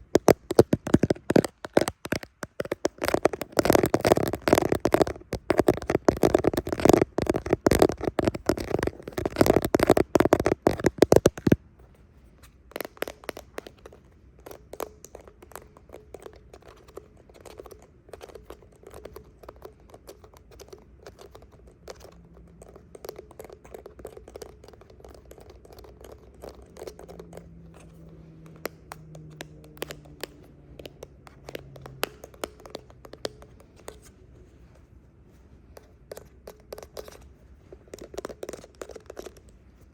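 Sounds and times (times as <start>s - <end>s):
fingernails scratching: 0.0s - 11.6s, 12.7s - 34.7s
fingernails tapping and clicking: 0.0s - 11.6s, 12.7s - 34.2s.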